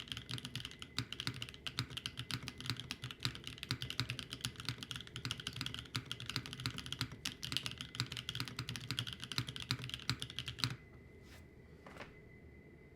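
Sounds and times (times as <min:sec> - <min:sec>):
fast mechanical keyboard typing: 0:00.0 - 0:10.8.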